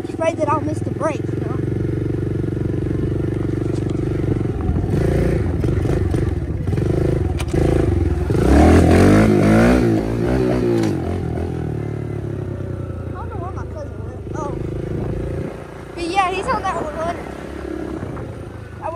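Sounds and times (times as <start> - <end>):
pit bike engine revving: 0.0 - 18.9.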